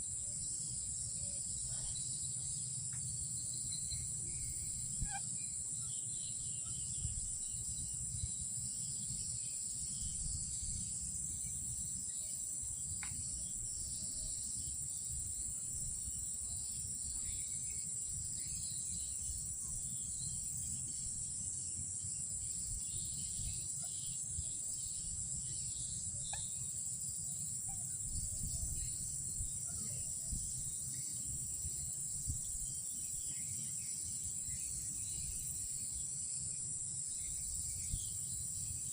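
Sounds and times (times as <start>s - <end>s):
crickets trilling: 0.0s - 38.9s
faint insect chirps: 0.0s - 38.9s.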